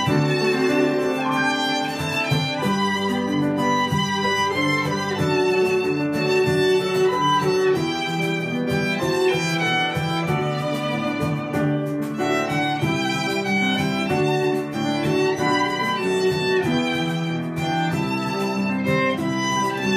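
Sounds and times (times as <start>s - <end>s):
grand piano accompaniment: 0.0s - 19.9s
violins playing a melody: 0.0s - 19.9s.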